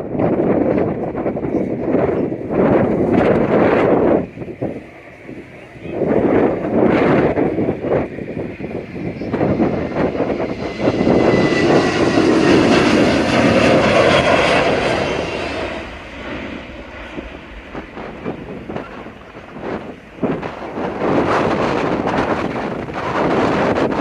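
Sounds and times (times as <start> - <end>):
jet airliner passing: 0.0 - 24.0
wind buffeting microphone: 0.0 - 24.0.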